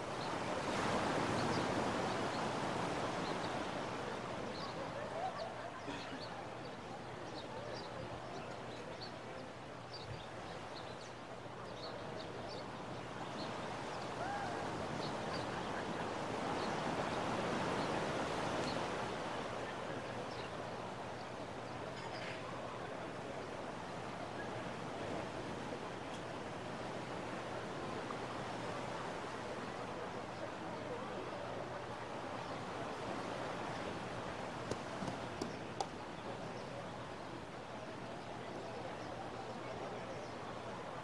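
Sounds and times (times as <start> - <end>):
ocean waves on beach: 0.0 - 41.0.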